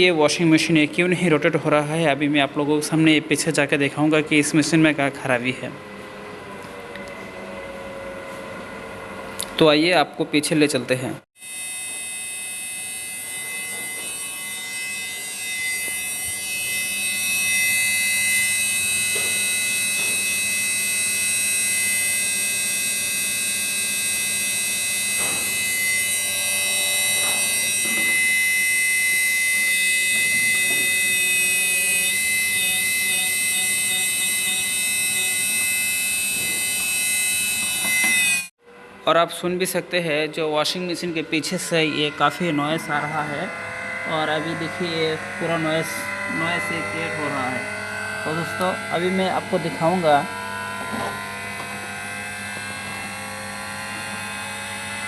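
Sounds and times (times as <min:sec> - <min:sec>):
washing machine motor whining: 0:00.0 - 0:10.6, 0:11.4 - 0:55.0.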